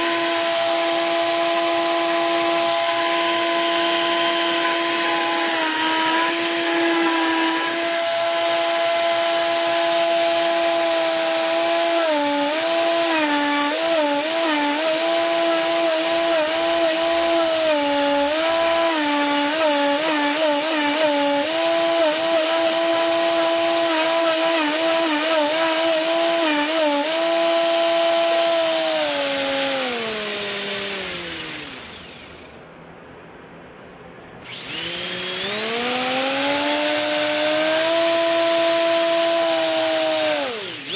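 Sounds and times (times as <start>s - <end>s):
electric motor whine and hiss: 0.0s - 32.6s, 34.5s - 40.9s.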